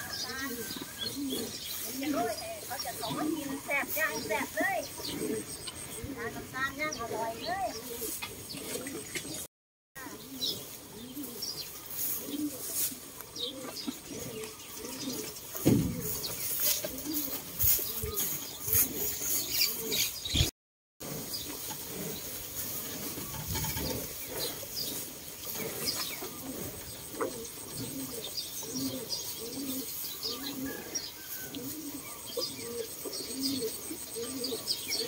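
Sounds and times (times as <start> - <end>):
doves cooing: 0.0 - 20.5, 21.1 - 35.0
small birds chirping: 0.0 - 20.5, 21.1 - 35.0.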